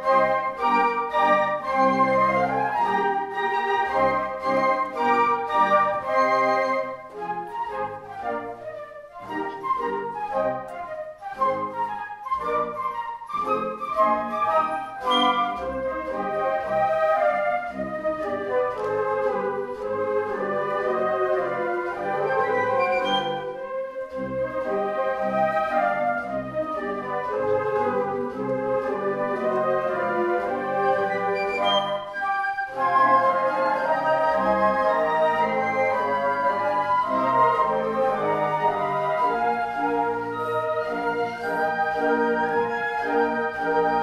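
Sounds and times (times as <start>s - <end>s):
instrumental ensemble playing classical: 0.0s - 44.0s.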